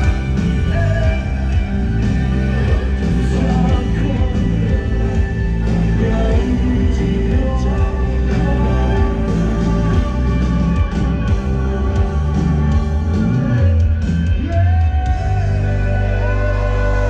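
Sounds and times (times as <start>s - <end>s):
man singing lead: 0.0s - 17.0s
rock band playing live: 0.0s - 17.0s.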